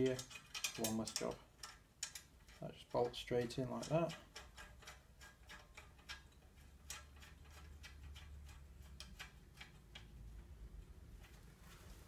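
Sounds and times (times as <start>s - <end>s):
rapid clicking of bolt tightening: 0.0s - 10.5s.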